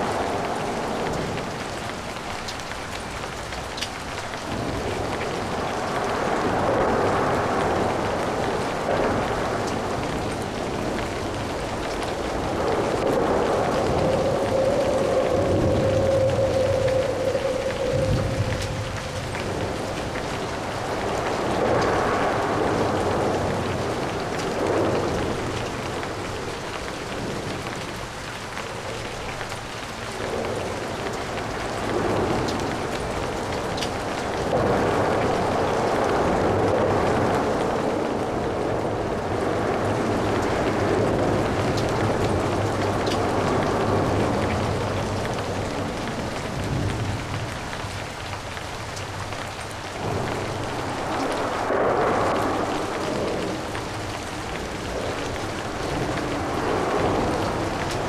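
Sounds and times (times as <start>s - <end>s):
light rain: 0.0s - 58.0s.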